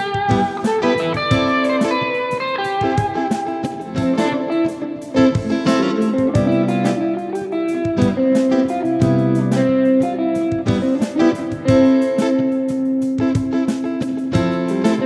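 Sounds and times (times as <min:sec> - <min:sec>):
electric guitar notes and chords: 0:00.0 - 0:15.0.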